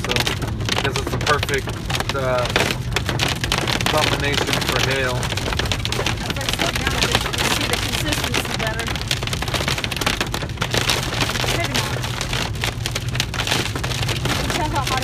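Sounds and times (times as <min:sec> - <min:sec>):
car rumbling on road: 0:00.0 - 0:15.0
hail and rain on car roof: 0:00.0 - 0:15.0.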